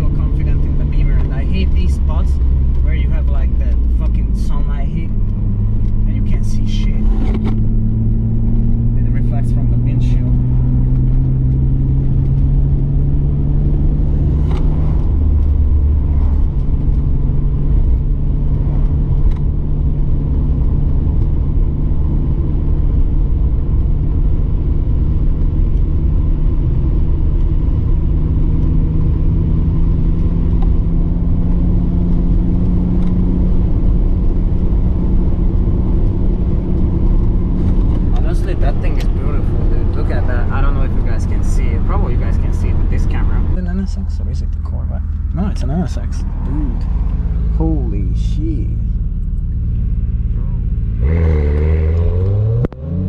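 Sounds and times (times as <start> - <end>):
car engine cruising: 0.0 - 53.0
road noise: 0.0 - 53.0.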